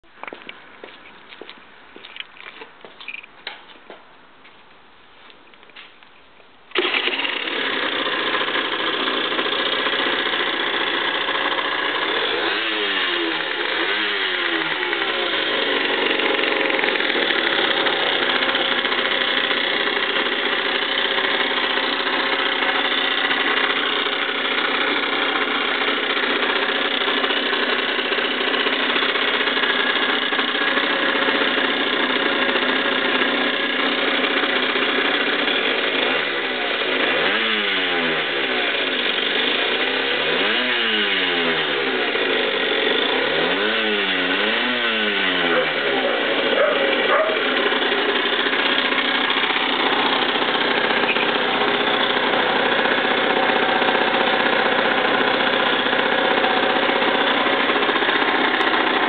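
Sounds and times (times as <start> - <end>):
motorcycle engine idling and revving: 6.7 - 59.0.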